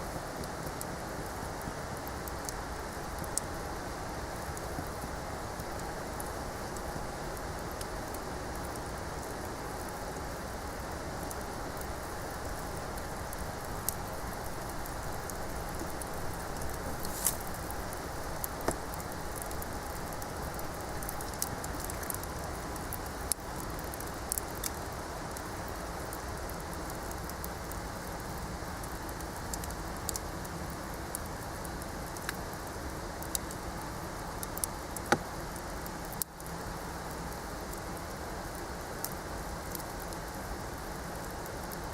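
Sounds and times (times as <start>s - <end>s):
bonfire hissing: 0.0s - 41.9s
wood crackling and popping: 0.1s - 33.6s, 34.3s - 41.9s.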